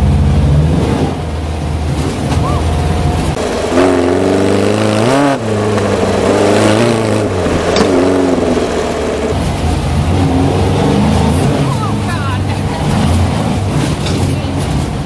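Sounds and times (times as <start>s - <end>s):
car engine revving: 0.0s - 15.0s
rough road noise: 0.0s - 15.0s.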